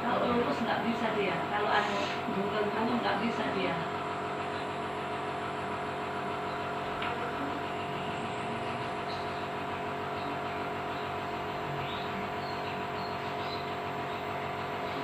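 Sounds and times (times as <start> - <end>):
nebulizer compressor humming: 0.0 - 15.0.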